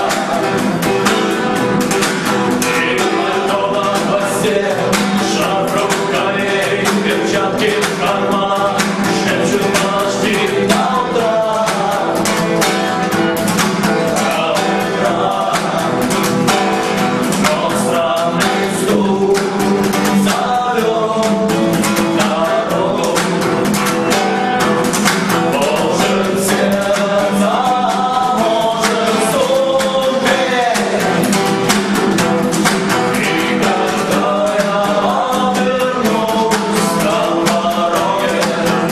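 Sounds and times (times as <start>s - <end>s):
person singing: 0.0s - 1.6s, 2.5s - 32.0s, 32.6s - 38.9s
guitar: 0.0s - 38.9s
steady beat: 0.0s - 38.9s.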